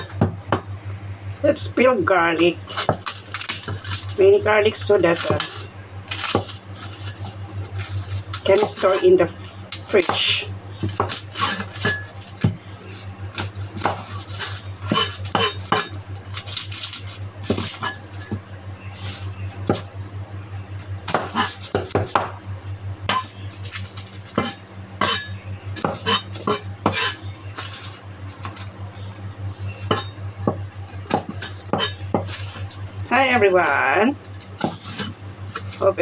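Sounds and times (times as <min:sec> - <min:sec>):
kitchen utensils clinking: 0:02.3 - 0:20.0, 0:23.1 - 0:36.0.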